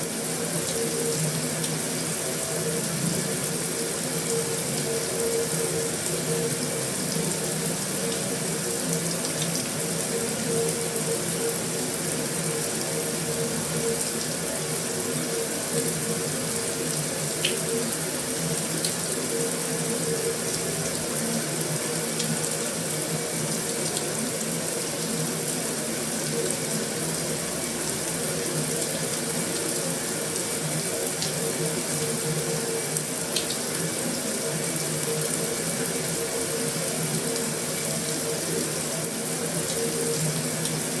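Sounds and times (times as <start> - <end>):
heavy rain on a metal roof: 0.0 - 41.0.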